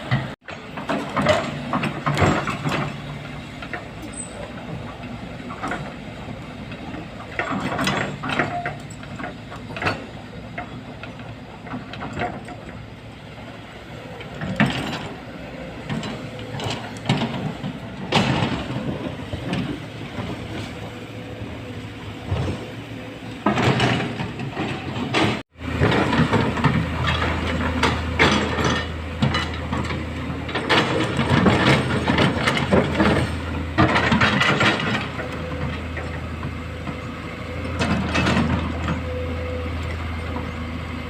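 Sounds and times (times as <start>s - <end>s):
excavator engine running: 0.0s - 41.0s.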